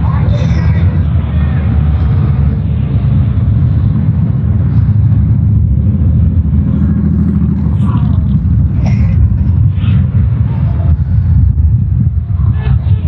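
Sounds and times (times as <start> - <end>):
motorcycles riding past: 0.0 - 13.0.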